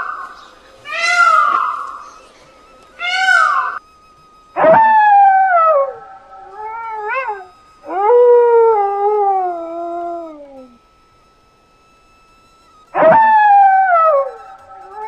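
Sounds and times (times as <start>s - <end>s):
animal howling: 0.0s - 3.8s, 4.6s - 10.8s, 12.9s - 15.0s.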